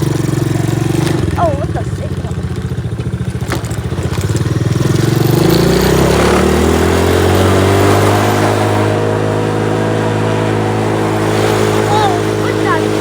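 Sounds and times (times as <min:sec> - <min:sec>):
atv engine idling and revving: 0:00.0 - 0:13.0.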